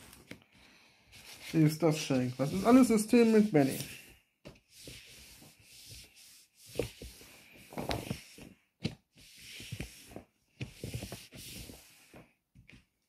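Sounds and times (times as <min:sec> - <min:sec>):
objects rustling and scraping on desk: 0:00.0 - 0:13.0.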